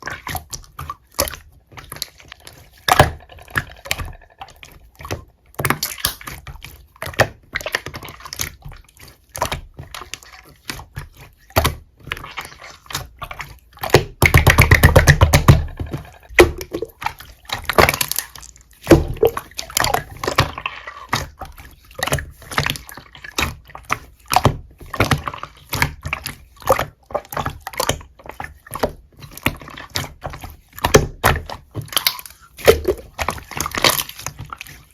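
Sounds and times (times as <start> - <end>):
slime squished by hand: 0.0 - 34.9.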